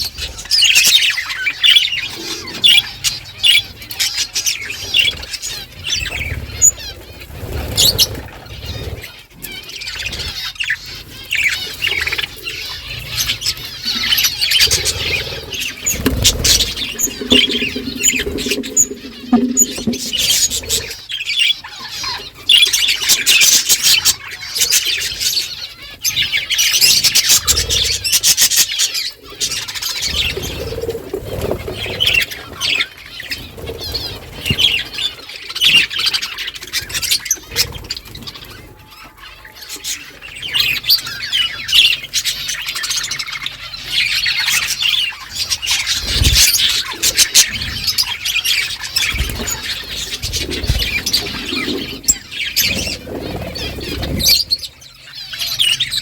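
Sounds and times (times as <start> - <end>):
flock of budgerigars chattering: 0.0 - 17.1, 22.1 - 56.0.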